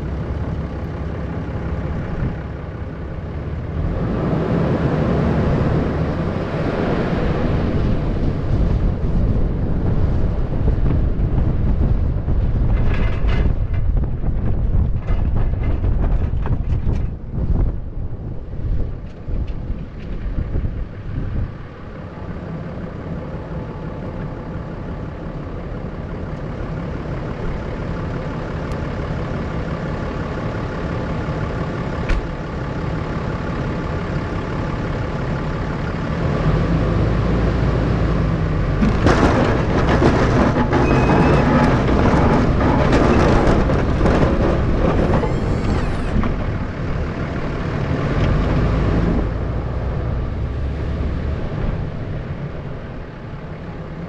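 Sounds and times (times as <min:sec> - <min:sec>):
road noise: 0:00.0 - 0:54.0
truck engine: 0:00.0 - 0:54.0.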